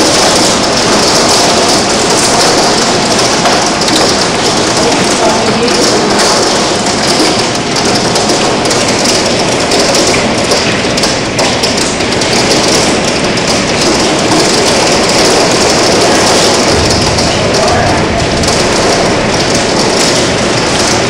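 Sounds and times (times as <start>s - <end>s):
hail and heavy rain pelting: 0.0s - 21.0s.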